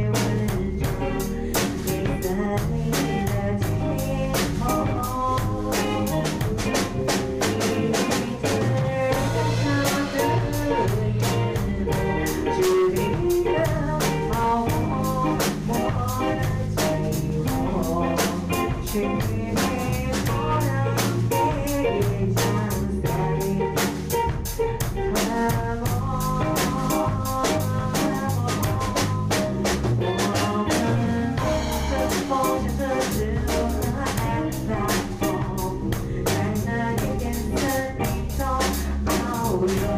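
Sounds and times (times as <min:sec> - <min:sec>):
band playing instrumental: 0:00.0 - 0:39.9
drum kit beat: 0:00.0 - 0:39.9.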